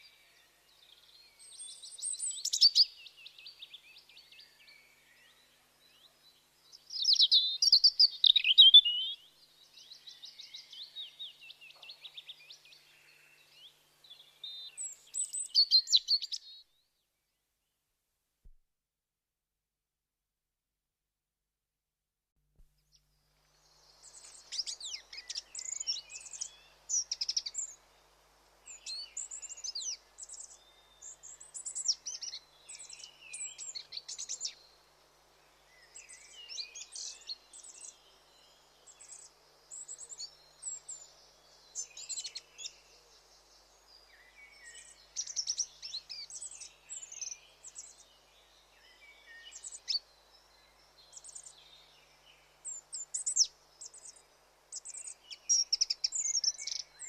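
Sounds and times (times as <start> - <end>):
birds chirping and twittering: 0.0 - 16.9, 22.9 - 57.0.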